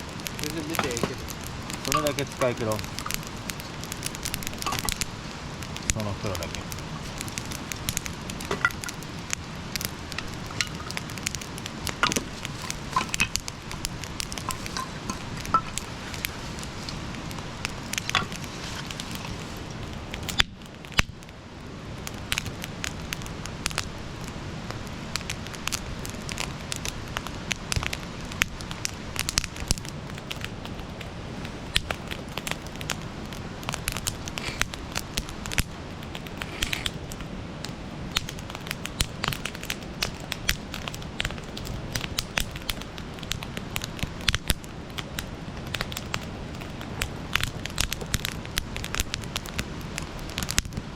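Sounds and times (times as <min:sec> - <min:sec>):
campfire crackling and popping: 0:00.0 - 0:50.9
hiss of burning: 0:00.0 - 0:50.9.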